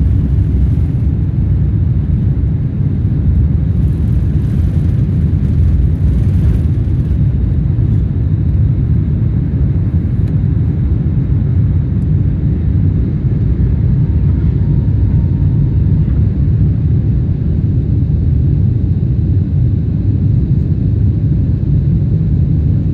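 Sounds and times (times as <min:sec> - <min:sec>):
deep rumble of jet engines: 0:00.0 - 0:22.9.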